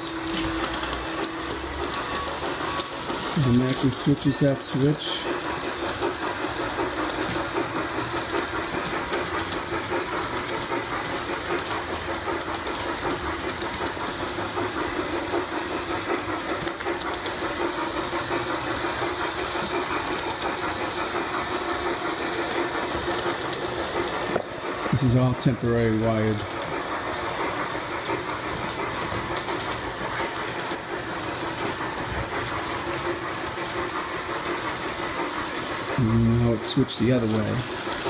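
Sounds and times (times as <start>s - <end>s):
model train motor hum: 0.0s - 38.0s
wheels rattling on rails: 0.0s - 38.0s.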